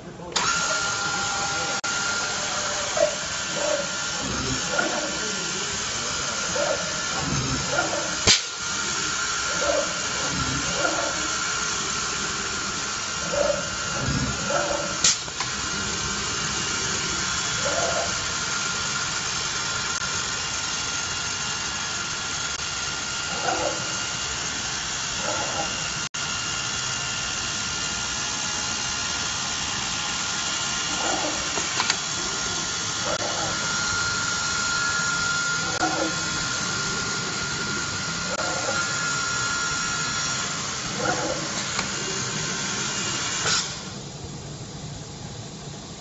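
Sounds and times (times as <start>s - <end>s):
router spindle high whine: 0.0s - 46.0s.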